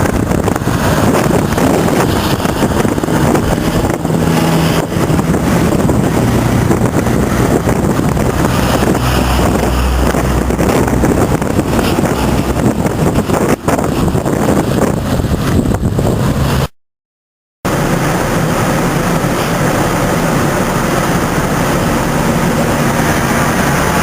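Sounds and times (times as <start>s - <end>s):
heavy vehicle engine humming: 0.0s - 16.7s, 17.7s - 24.0s
wind noise on microphone: 0.0s - 16.7s, 17.7s - 24.0s.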